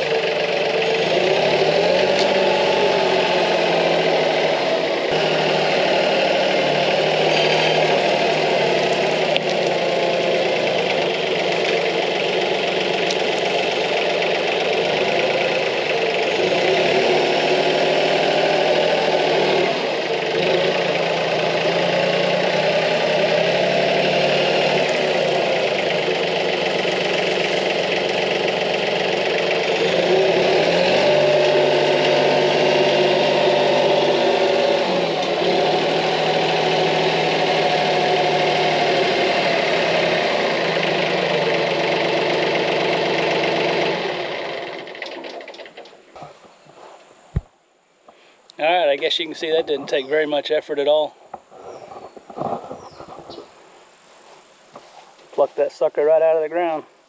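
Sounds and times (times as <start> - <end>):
tractor diesel engine running: 0.0 - 47.5, 48.3 - 56.8.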